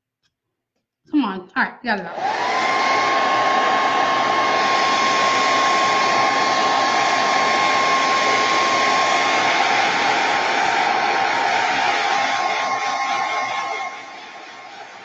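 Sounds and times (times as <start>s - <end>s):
handheld dryer blowing air: 2.1s - 15.0s.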